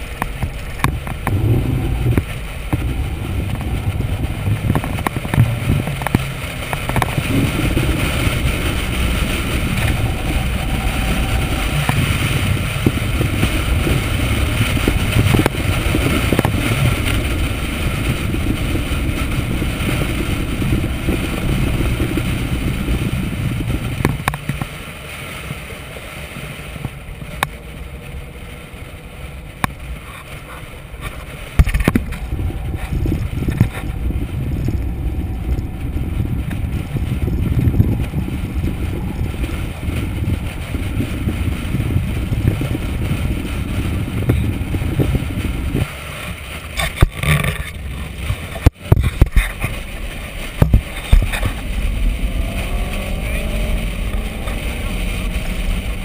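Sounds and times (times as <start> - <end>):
car engine running: 0.0 - 56.0
wind and road noise: 0.0 - 56.0.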